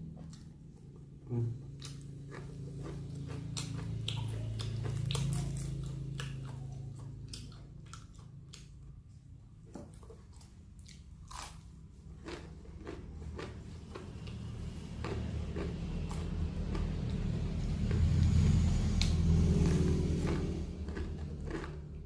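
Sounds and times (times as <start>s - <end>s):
chewing crispy fried food: 0.0s - 22.0s
low steady hum: 0.0s - 22.0s.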